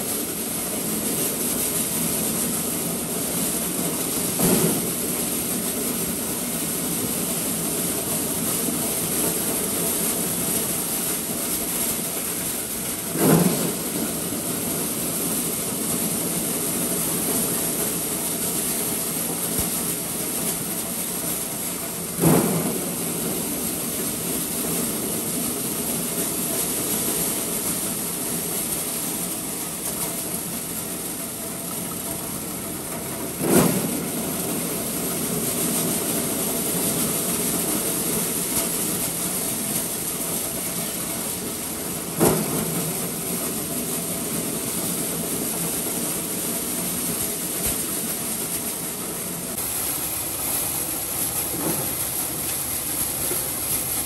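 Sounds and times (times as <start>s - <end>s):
maize sheller running: 0.0s - 54.0s.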